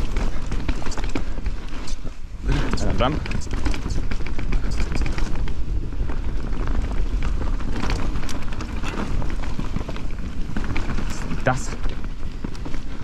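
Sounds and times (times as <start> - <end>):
bike rattling: 0.0 - 13.0
tyres rumbling over dirt: 0.0 - 13.0
wind buffeting microphone: 0.0 - 13.0.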